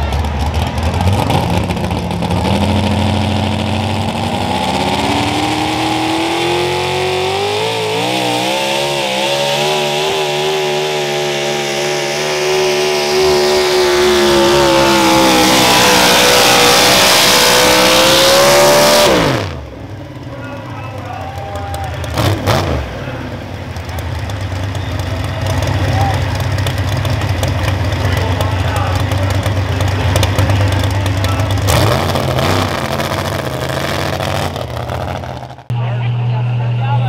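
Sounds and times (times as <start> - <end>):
truck engine at full throttle: 0.0 - 37.0.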